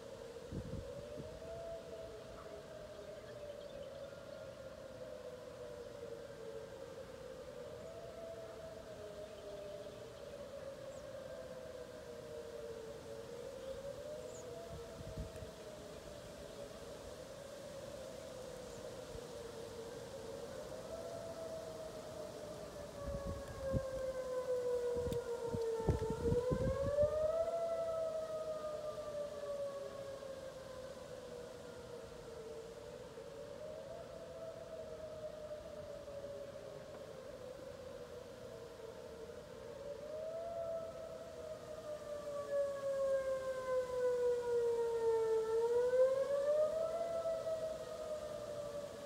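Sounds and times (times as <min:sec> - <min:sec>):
warning siren wailing: 0:00.0 - 0:49.0.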